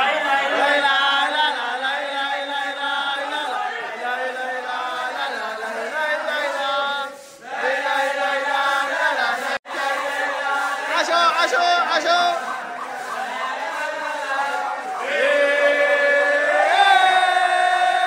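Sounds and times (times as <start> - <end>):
man chanting through megaphone: 0.0 - 18.0.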